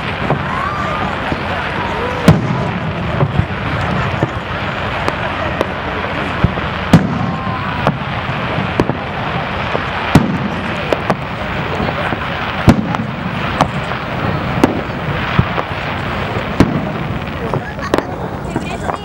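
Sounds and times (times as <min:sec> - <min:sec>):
crowd hubbub: 0:00.0 - 0:19.0
fireworks bursting: 0:00.0 - 0:19.0.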